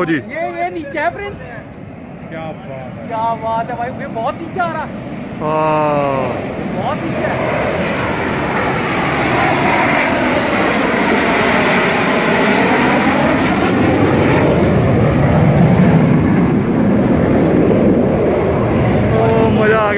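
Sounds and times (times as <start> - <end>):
jet roaring overhead: 0.0 - 19.9.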